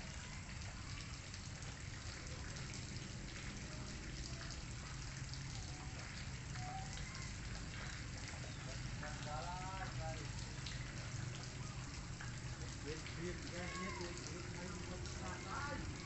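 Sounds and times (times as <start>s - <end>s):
light rain-like crackling: 0.0s - 16.0s.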